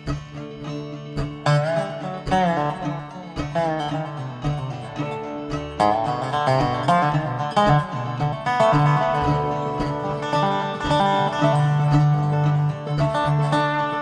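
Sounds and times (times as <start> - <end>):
banjo: 0.0 - 14.0
dobro sliding notes: 0.0 - 14.0
picked guitar: 0.0 - 14.0.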